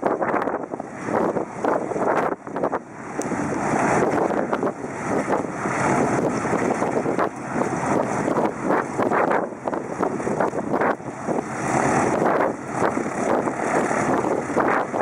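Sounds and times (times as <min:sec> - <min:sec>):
piston aircraft engine running: 0:00.0 - 0:15.0
wind on microphone: 0:00.0 - 0:15.0.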